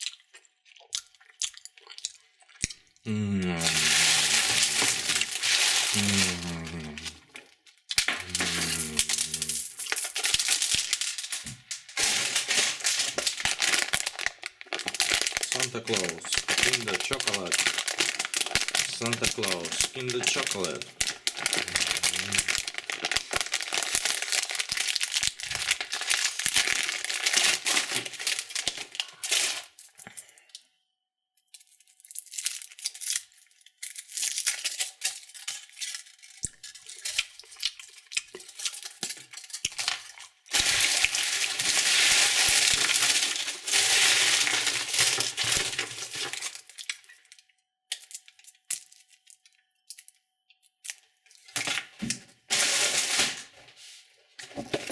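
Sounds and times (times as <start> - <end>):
wrapper crinkling and tearing: 3.6 - 30.2, 31.6 - 53.6, 54.4 - 54.9.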